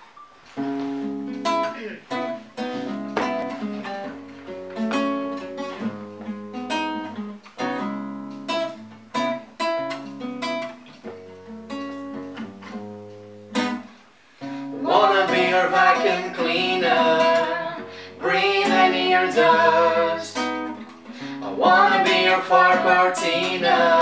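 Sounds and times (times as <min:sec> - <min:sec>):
classical guitar chords ringing: 0:00.6 - 0:24.0.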